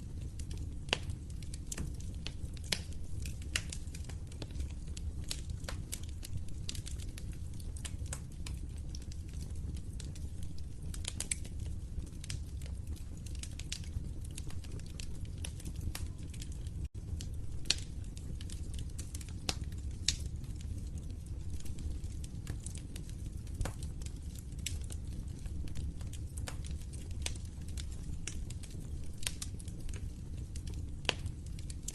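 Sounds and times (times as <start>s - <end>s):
fire popping: 0.0s - 31.9s
wood fire crackling: 0.0s - 31.9s.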